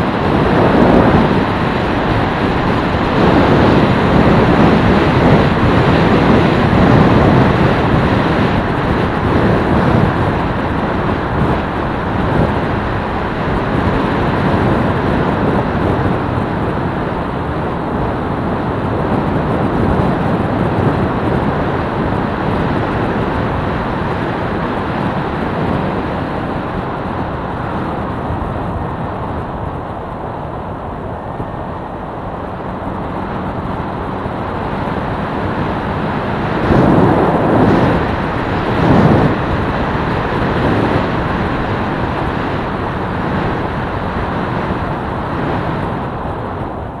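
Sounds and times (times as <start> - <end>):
motorcycle engine running: 0.0 - 47.0
wind rushing over microphone: 0.0 - 47.0.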